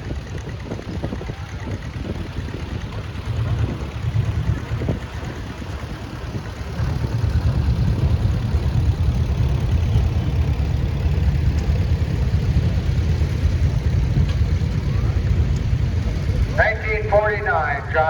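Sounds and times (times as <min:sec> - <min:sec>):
tractor engine low rumble: 0:00.0 - 0:18.0.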